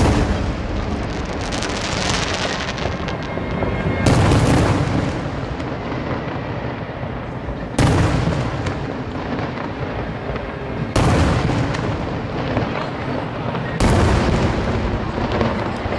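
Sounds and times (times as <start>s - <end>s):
firework shells booming: 0.0s - 6.2s, 7.8s - 15.9s
long rolling echo: 0.0s - 15.9s.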